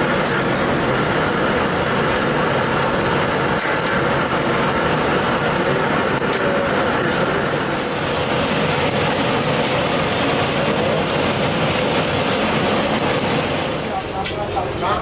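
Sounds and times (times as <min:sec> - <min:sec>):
loud mechanical din: 0:00.0 - 0:14.2.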